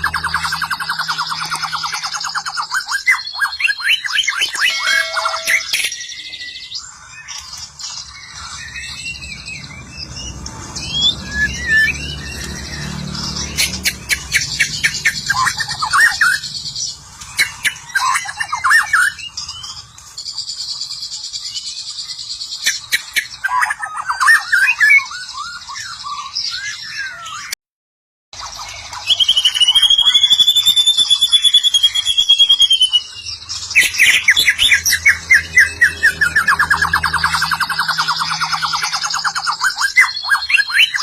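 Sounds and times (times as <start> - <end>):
bird singing whistled phrases: 0.0 - 16.5, 17.3 - 19.8, 21.4 - 27.5, 28.9 - 41.0.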